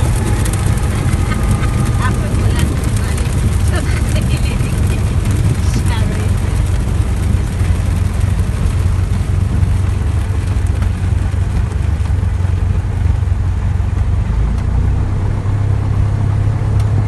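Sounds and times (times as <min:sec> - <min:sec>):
airplane piston engine droning: 0:00.0 - 0:17.0.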